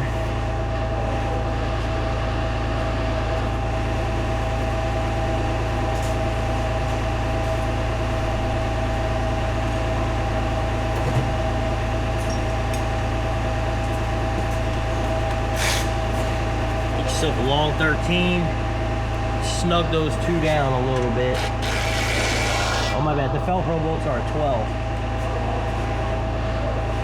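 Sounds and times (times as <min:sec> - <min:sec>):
machine hum with whine: 0:00.0 - 0:27.0.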